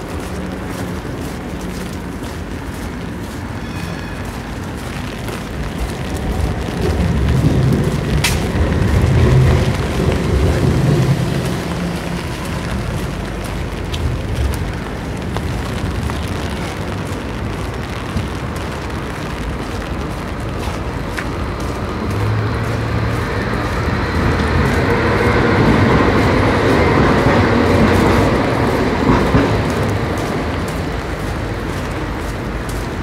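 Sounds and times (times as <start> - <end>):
rain on a wet street: 0.0 - 33.0
low rumble: 4.6 - 33.0.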